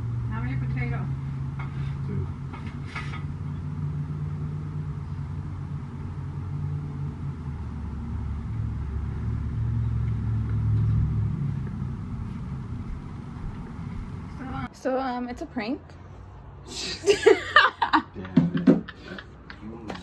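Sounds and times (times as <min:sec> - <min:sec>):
droning hum: 0:00.0 - 0:16.5.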